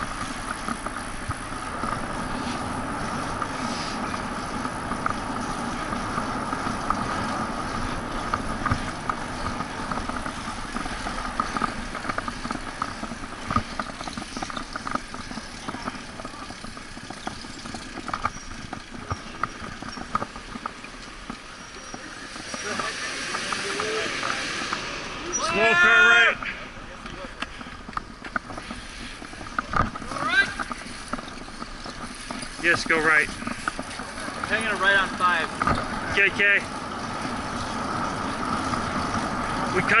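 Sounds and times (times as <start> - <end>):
bicycle rattling over bumps: 0.0 - 40.0
bicycle tyres and chain humming: 0.0 - 40.0.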